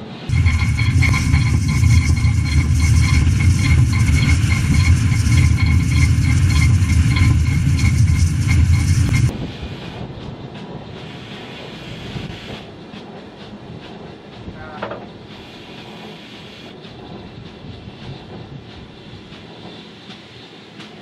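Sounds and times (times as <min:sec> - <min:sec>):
steam locomotive releasing steam: 0:00.0 - 0:10.2, 0:10.9 - 0:12.7, 0:15.2 - 0:21.0.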